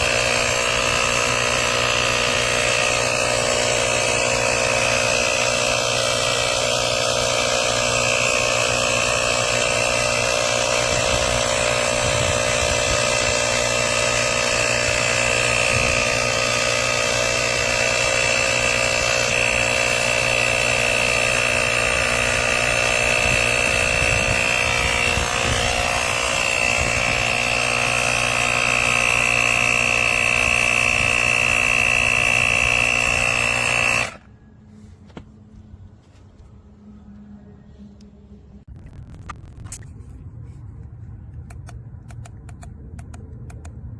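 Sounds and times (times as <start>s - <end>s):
small air compressor buzzing: 0.0s - 35.6s.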